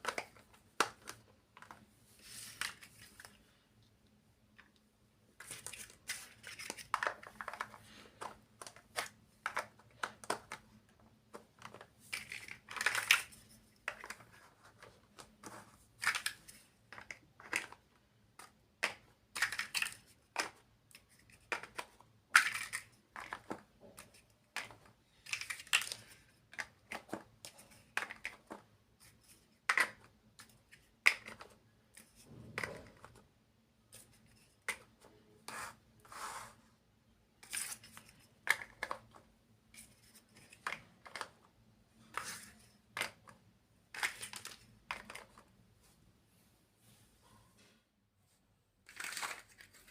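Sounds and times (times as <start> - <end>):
plastic blocks clicking: 0.0 - 1.8, 5.4 - 33.3, 33.9 - 35.8, 37.4 - 45.5, 48.8 - 49.9.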